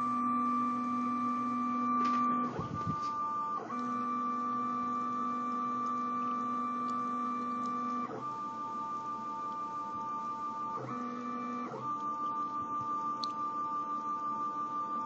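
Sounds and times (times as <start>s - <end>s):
stepper motor whine: 0.0s - 15.0s.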